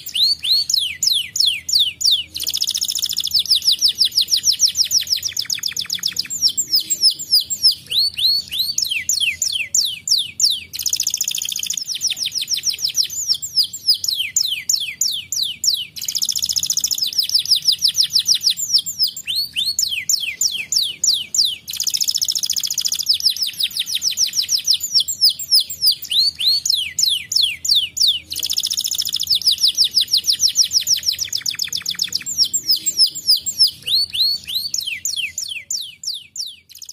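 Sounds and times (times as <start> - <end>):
canary singing rapid trills: 0.0 - 36.9.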